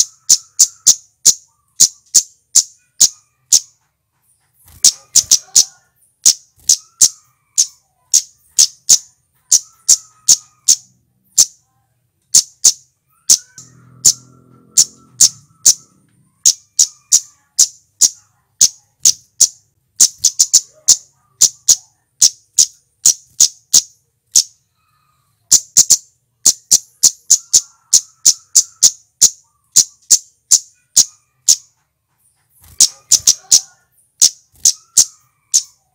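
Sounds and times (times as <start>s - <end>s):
bird high-pitched tsit calls: 0.0s - 11.6s, 12.3s - 35.9s.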